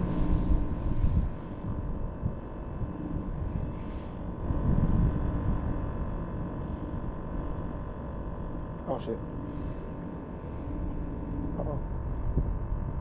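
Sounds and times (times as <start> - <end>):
constant hum: 0.0 - 13.0
low engine rumble: 0.0 - 13.0.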